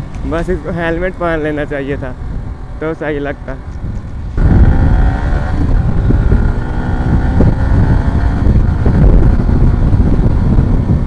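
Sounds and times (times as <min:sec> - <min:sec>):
wind buffeting microphone: 0:00.0 - 0:11.0
motorcycle engine running: 0:02.0 - 0:11.0.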